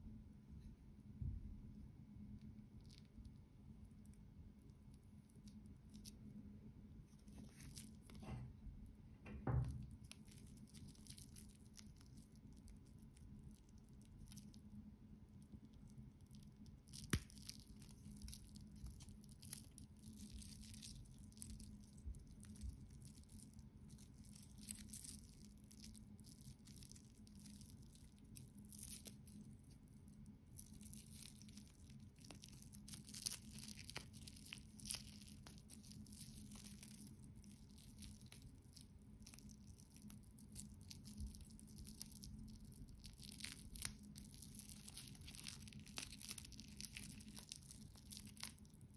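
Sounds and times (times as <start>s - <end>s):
low steady hum: 0.0s - 48.9s
plastic film crinkling: 7.1s - 8.4s, 9.2s - 14.7s, 15.6s - 48.9s.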